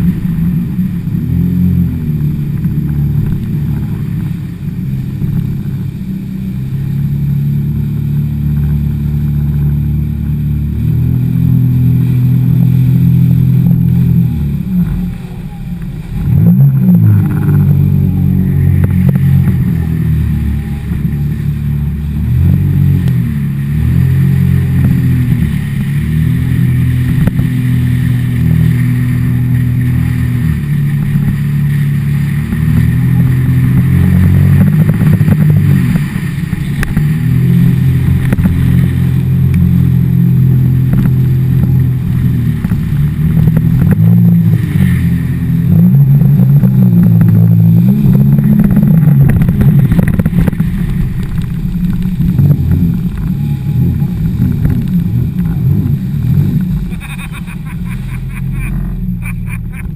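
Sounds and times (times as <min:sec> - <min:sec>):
jet ski engine revving: 0:00.0 - 0:59.9.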